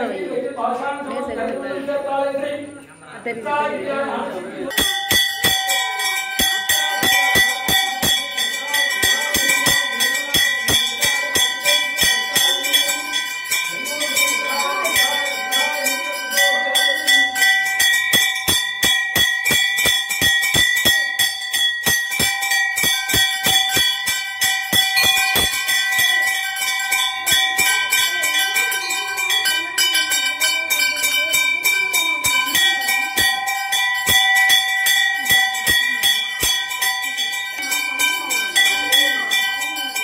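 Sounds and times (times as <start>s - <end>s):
temple bells rung rapidly: 4.7s - 40.0s.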